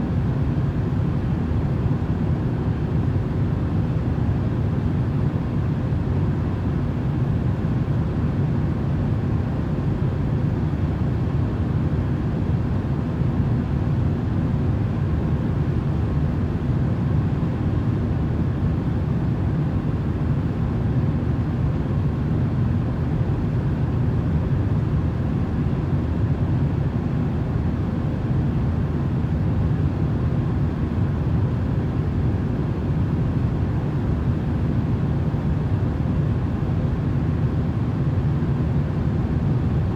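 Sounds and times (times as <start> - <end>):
faint steady hums: 0.0 - 39.9.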